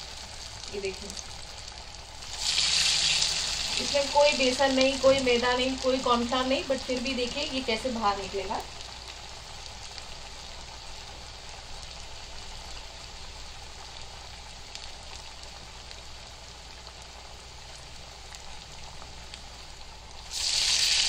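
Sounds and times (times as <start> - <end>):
deep-frying in hot oil: 0.0 - 21.0.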